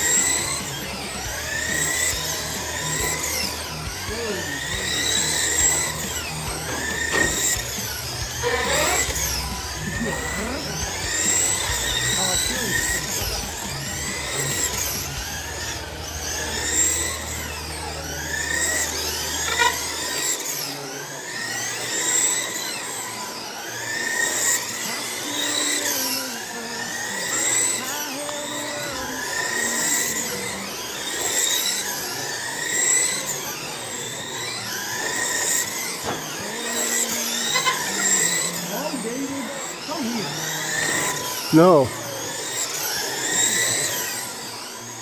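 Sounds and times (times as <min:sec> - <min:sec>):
rc car motors whining: 0:00.0 - 0:45.0.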